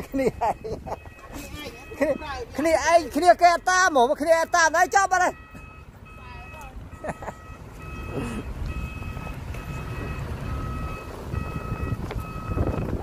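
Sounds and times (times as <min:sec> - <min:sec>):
backup alarm beeping: 0:00.0 - 0:13.0
diesel engine running: 0:00.0 - 0:13.0.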